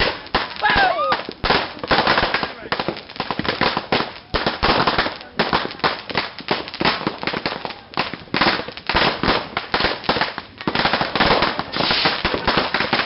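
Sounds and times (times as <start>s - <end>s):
firecrackers popping and banging: 0.0s - 13.0s.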